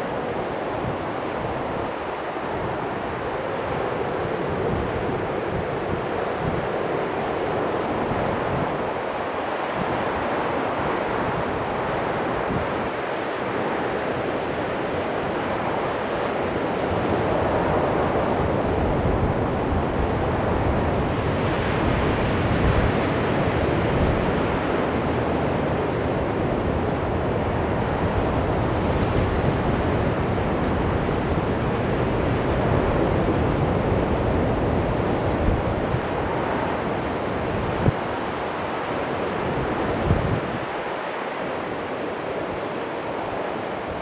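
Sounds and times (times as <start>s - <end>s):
waves breaking on a beach: 0.0s - 44.0s
wind rumbling on microphone: 0.0s - 44.0s.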